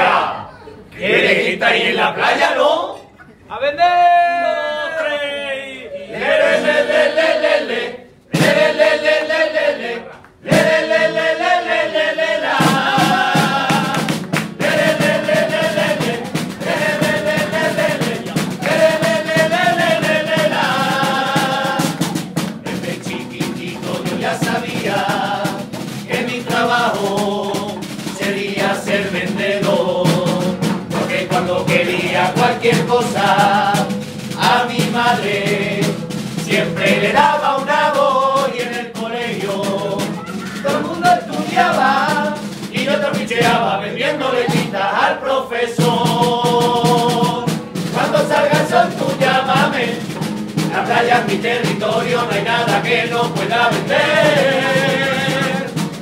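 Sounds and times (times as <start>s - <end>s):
drums beating: 1.0s - 2.7s, 6.2s - 56.0s
men singing in unison: 1.0s - 3.0s, 6.2s - 56.0s.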